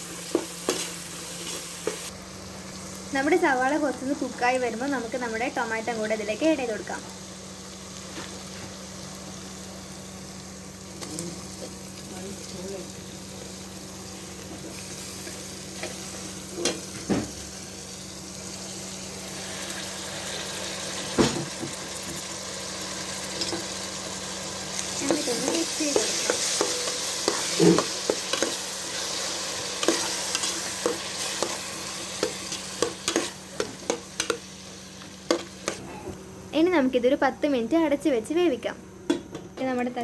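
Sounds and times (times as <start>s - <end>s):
onions sizzling in hot oil: 0.0s - 35.8s.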